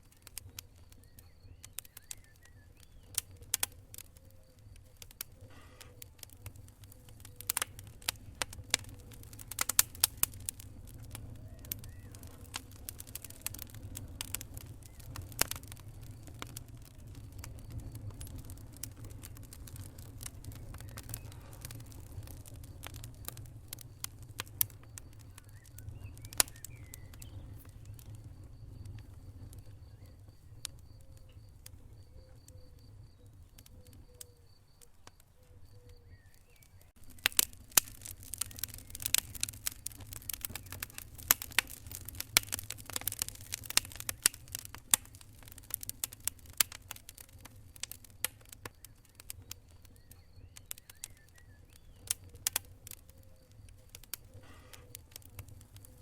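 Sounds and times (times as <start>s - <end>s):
low rumble of fire: 0.0s - 56.0s
wood fire crackling and popping: 0.0s - 56.0s.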